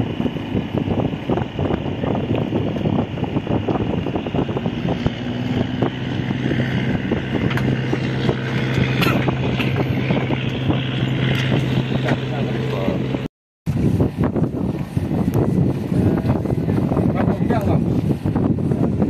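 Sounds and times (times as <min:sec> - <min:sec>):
boat engine humming: 0:00.0 - 0:18.8
wind buffeting microphone: 0:00.0 - 0:19.0.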